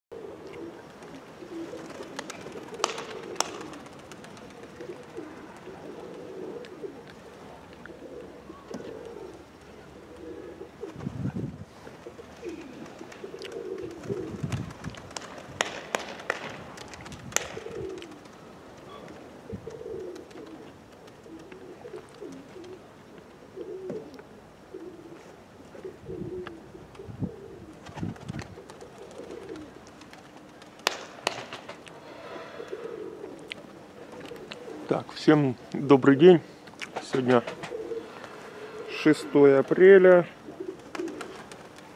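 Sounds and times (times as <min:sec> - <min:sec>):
pigeons cooing: 0:00.1 - 0:41.9.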